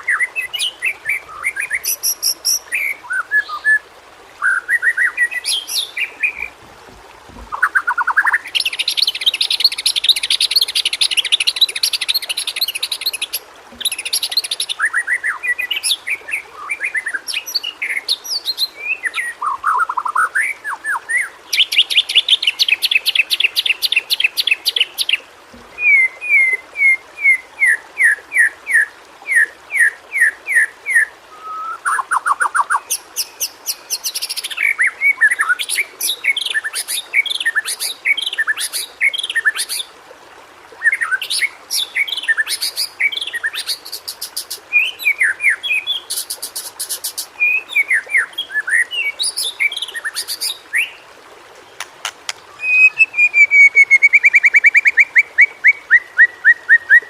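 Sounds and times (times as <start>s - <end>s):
songbird singing trills and whistles: 7.5s - 39.9s, 40.8s - 51.0s, 52.3s - 57.0s.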